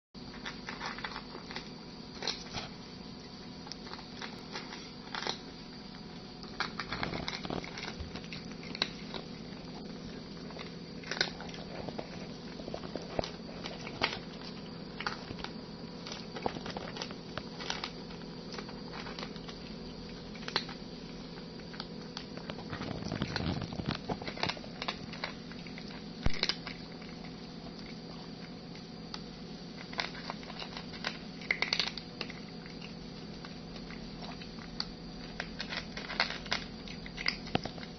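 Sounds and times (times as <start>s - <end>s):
cat eating from plastic bowl: 0.2s - 37.9s.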